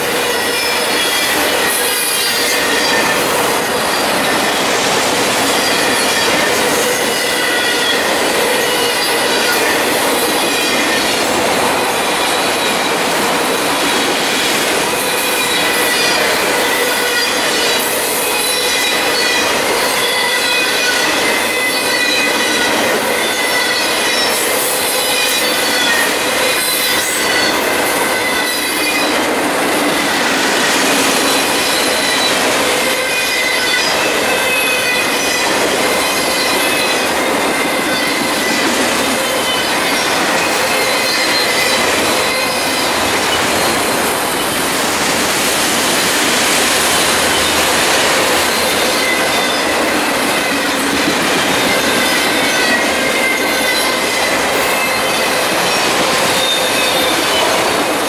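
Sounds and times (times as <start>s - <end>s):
high ringing wheel squeal: 0.0s - 11.3s, 14.9s - 57.6s
train wheels rushing on rail: 0.0s - 58.0s.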